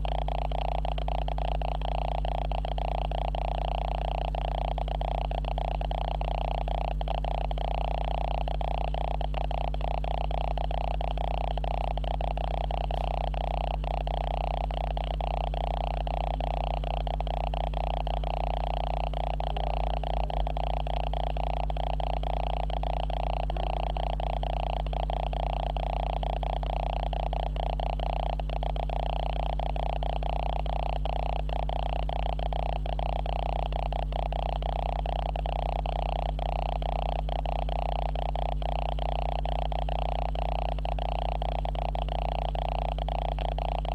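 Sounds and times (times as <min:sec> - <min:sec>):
electrical buzzing hum: 0:00.0 - 0:43.9
mid-pitched electrical whine: 0:00.0 - 0:43.9.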